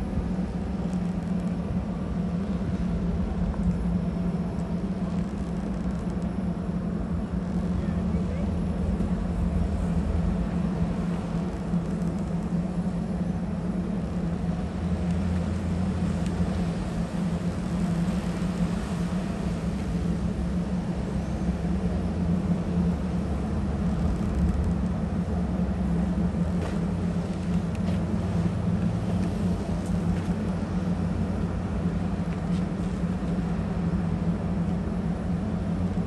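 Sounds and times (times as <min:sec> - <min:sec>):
low diesel engine drone: 0:00.0 - 0:36.0.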